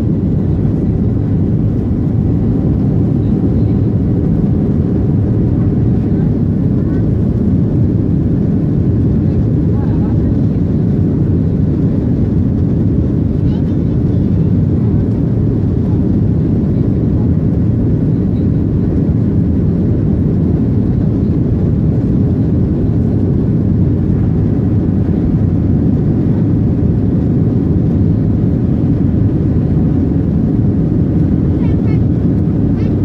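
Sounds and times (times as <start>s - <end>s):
airliner engine roar in cabin: 0.0s - 33.0s.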